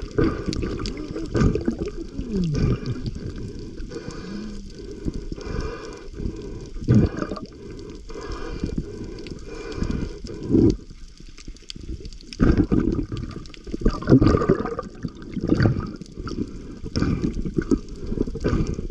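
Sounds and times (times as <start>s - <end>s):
underwater gurgling and sloshing: 0.0s - 18.9s.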